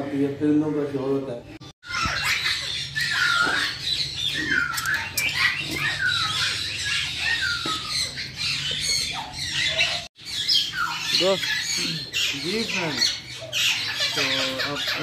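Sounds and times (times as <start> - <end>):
birds squawking and chattering: 0.0 - 15.0.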